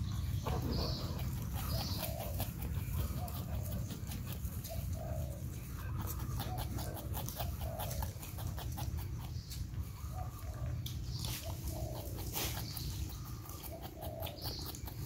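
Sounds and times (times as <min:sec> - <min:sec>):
porcupine chewing food: 0:00.0 - 0:15.0.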